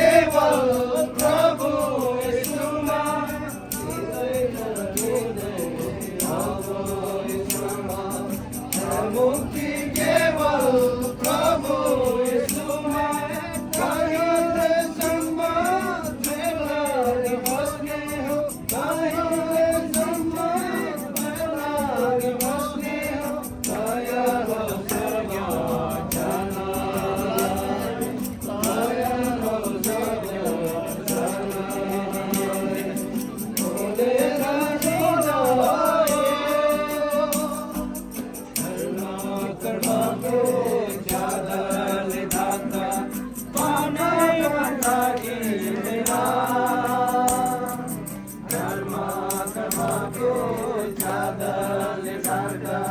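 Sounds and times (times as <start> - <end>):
worship song sung with accompaniment: 0.0 - 52.9.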